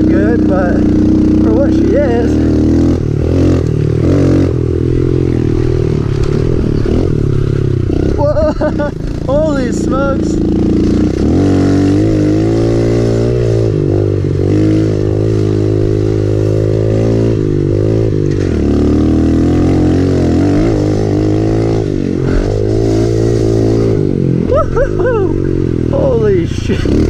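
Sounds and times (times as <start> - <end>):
dirt bike engine running hard: 0.0 - 27.0.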